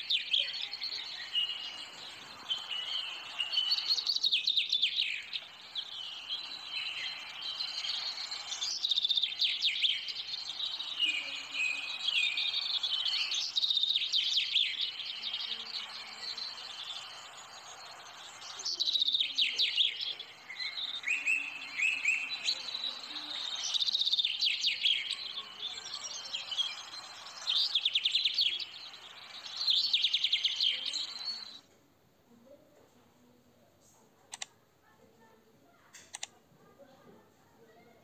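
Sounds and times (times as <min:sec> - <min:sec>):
faint steady hiss: 0:00.0 - 0:38.0
small birds chirping: 0:00.0 - 0:38.0.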